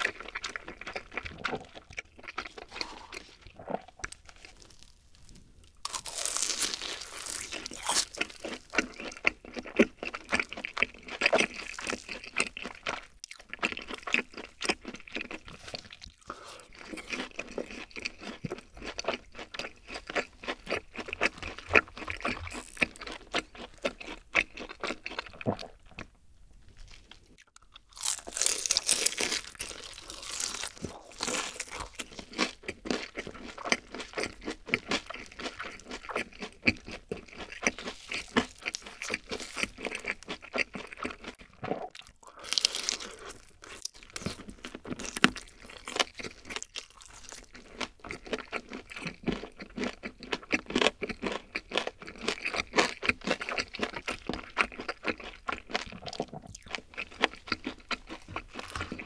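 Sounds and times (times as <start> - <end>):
chewing and crunching fried chicken: 0.0 - 59.0.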